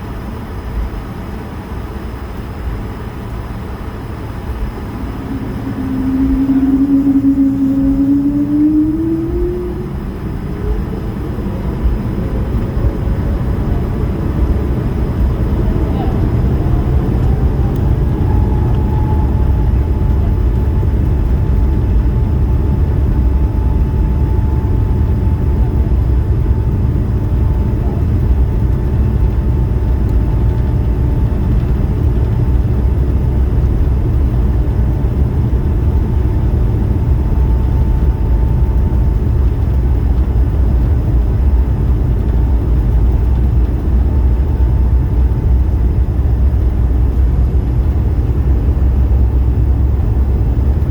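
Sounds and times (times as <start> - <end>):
jet engines rumbling and whining: 0.0 - 50.9.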